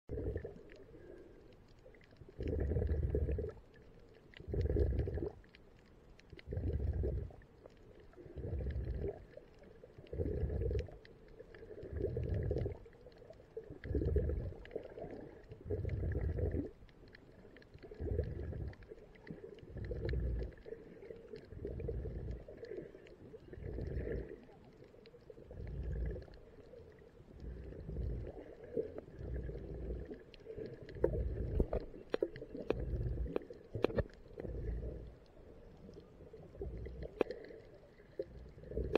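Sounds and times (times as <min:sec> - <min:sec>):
muffled snorkel breathing: 0:00.1 - 0:05.5, 0:06.3 - 0:16.7, 0:17.3 - 0:38.9.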